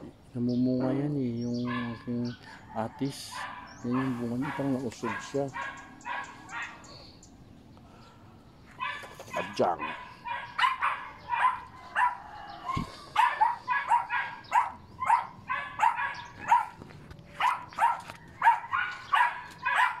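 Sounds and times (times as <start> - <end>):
dog barking: 0.8 - 2.4, 3.2 - 7.0, 8.8 - 20.0.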